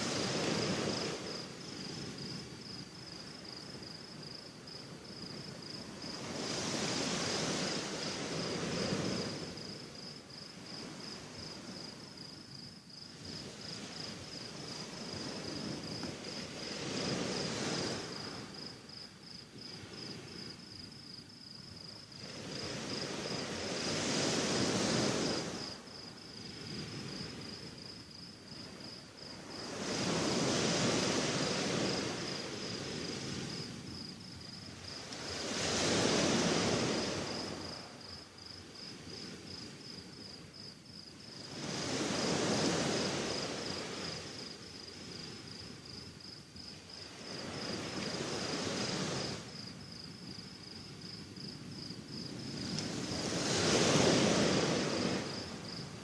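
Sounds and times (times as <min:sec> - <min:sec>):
sea waves washing onto shore: 0:00.0 - 0:12.2, 0:13.0 - 0:20.6, 0:22.0 - 0:40.6, 0:41.2 - 0:49.9, 0:50.8 - 0:56.0
cricket chirping: 0:00.0 - 0:56.0.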